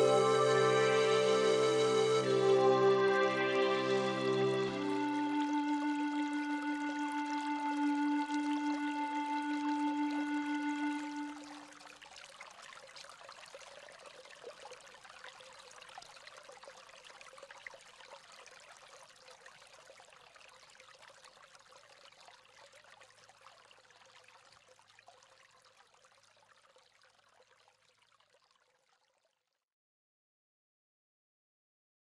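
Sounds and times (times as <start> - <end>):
faint flowing water: 0.0 - 29.6.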